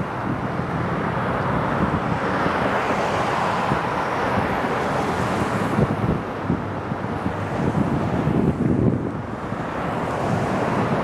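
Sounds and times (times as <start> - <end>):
tyres on slushy road: 0.0 - 11.0.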